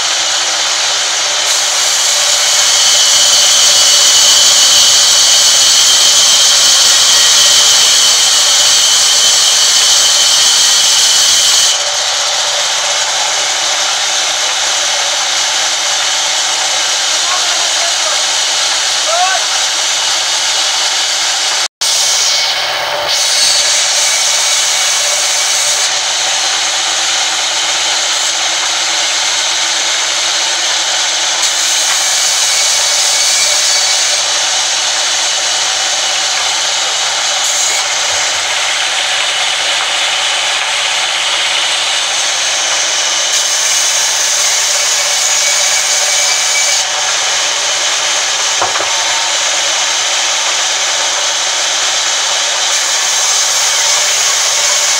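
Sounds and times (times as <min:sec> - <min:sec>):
band saw cutting timber: 0:00.0 - 0:54.9.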